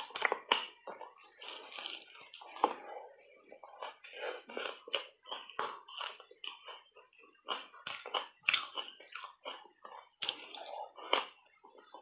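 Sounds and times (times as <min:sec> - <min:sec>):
crunching ice while chewing: 0:00.0 - 0:02.8, 0:03.4 - 0:12.0.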